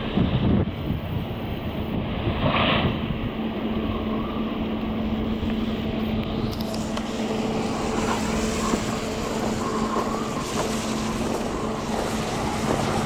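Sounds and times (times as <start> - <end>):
constant low hum: 0.0 - 12.9
rush of road traffic: 0.0 - 13.0.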